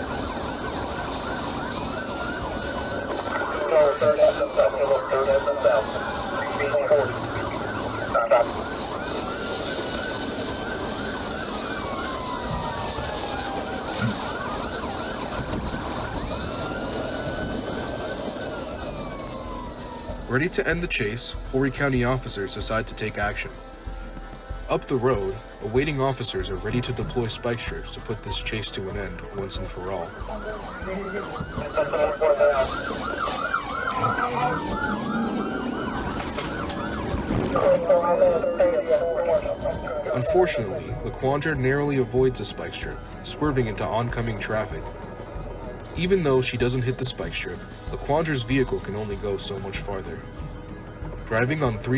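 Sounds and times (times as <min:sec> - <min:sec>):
car road and engine noise: 0:00.0 - 0:51.9
police siren yelping and wailing: 0:00.0 - 0:51.9.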